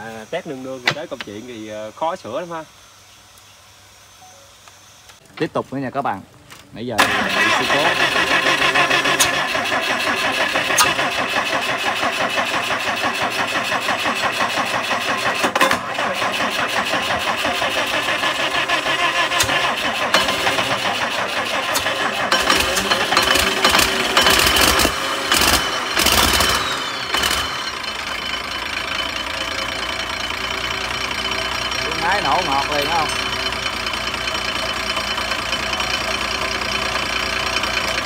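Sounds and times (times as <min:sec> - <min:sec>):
diesel engine running roughly: 0:00.0 - 0:02.7, 0:07.0 - 0:38.0.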